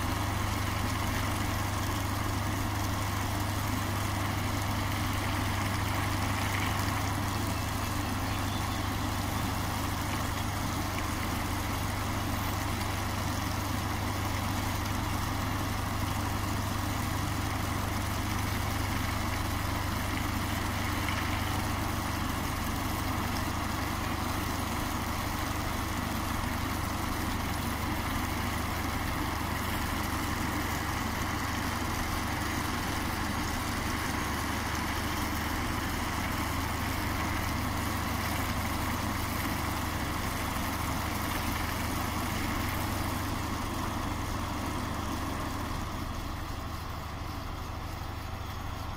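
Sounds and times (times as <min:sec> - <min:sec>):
diesel locomotive idling: 0:00.0 - 0:48.9.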